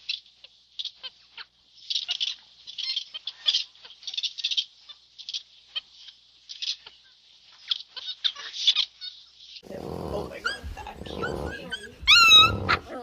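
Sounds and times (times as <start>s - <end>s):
small animal chirping and squeaking: 0.0s - 13.0s.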